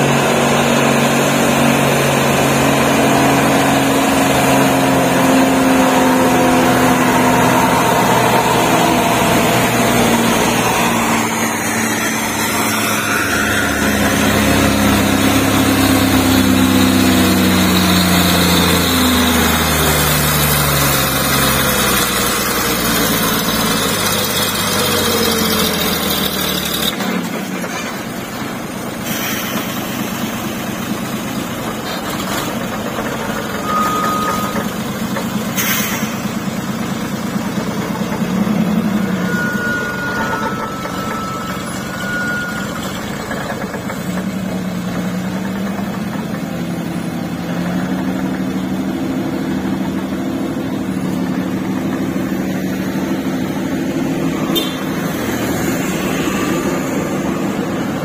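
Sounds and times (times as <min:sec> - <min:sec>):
truck diesel engine labouring: 0:00.0 - 0:58.0.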